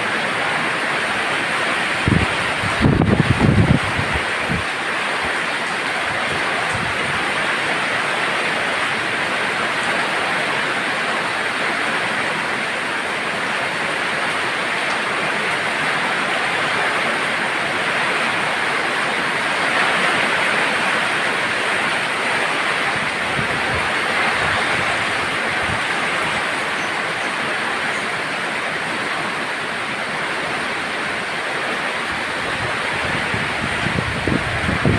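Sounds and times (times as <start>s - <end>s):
heavy rain falling: 0.0s - 34.9s
wind: 0.0s - 34.9s.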